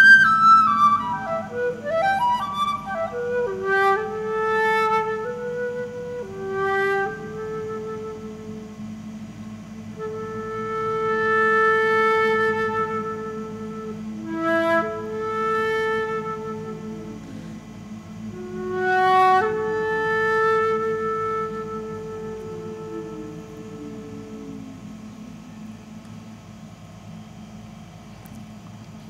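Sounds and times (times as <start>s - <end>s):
flute playing slow melody: 0.0s - 28.5s
people humming a low drone: 0.0s - 29.0s.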